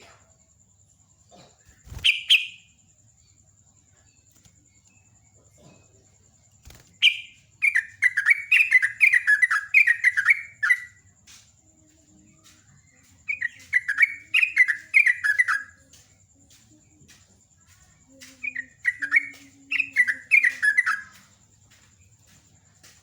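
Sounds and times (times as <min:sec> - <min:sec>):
bird chattering song: 0:01.6 - 0:02.9, 0:04.2 - 0:11.4, 0:12.2 - 0:23.0.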